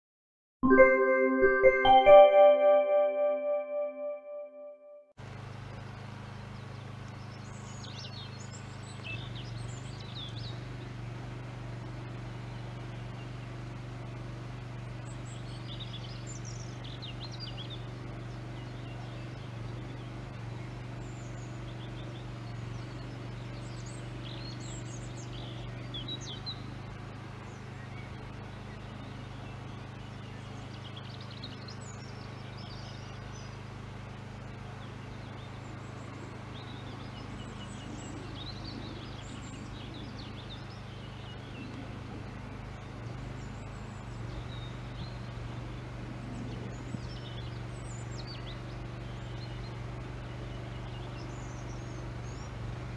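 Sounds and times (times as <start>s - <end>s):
small birds chirping: 5.5s - 52.9s.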